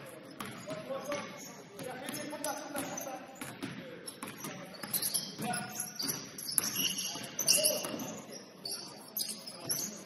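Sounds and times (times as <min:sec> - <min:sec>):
sneakers squeaking: 0:00.0 - 0:10.0.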